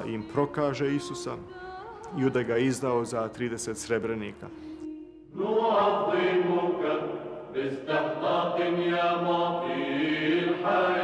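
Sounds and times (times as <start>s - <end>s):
low voices chanting a hymn: 2.1s - 11.0s.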